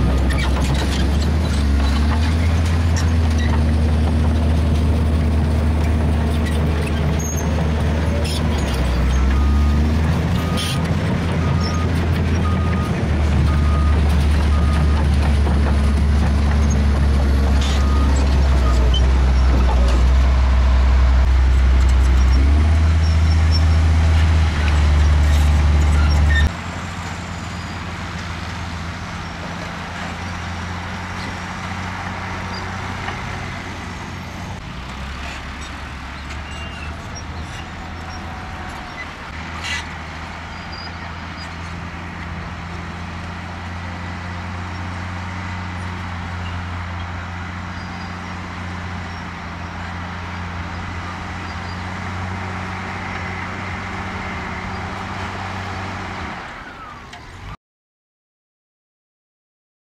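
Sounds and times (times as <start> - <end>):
diesel truck engine droning: 0.0 - 57.6
dump truck driving: 0.0 - 57.6.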